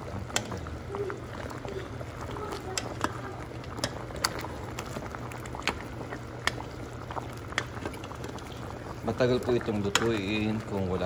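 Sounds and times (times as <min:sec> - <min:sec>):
stew simmering and bubbling: 0:00.0 - 0:11.0.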